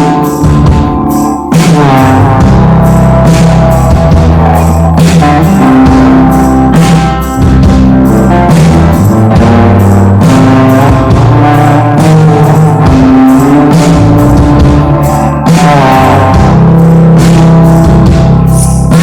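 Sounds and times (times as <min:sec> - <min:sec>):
bass and guitar chords: 0:00.0 - 0:19.0
drum kit beat: 0:00.0 - 0:19.0.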